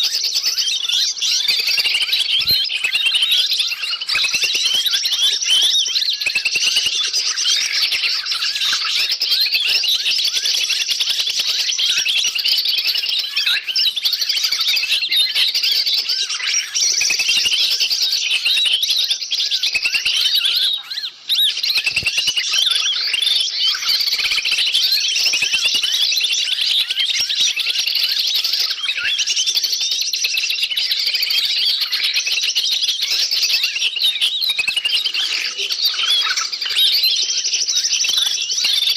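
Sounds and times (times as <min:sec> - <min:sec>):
small birds chattering and chirping: 0:00.0 - 0:38.9.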